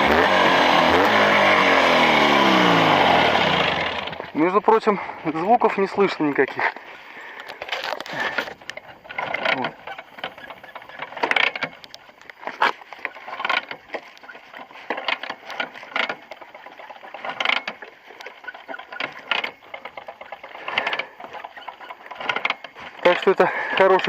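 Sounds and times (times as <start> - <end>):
two-stroke engine running unevenly: 0.0 - 24.0.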